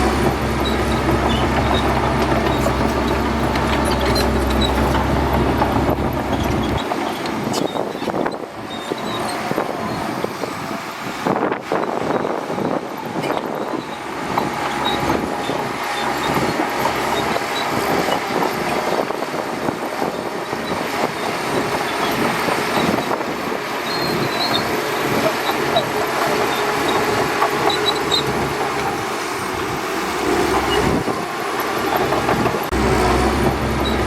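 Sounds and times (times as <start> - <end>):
bulldozer engine running: 0.0 - 34.0.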